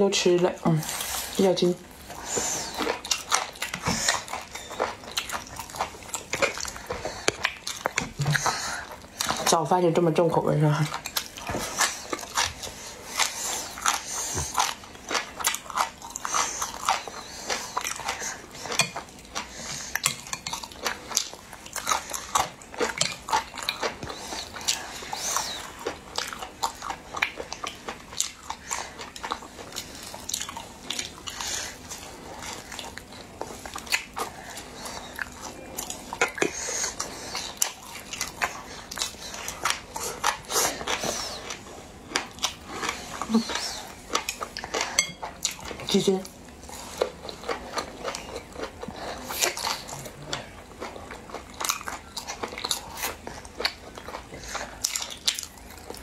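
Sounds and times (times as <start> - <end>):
chewing and biting mouth sounds: 0.2 - 9.7, 10.6 - 56.0.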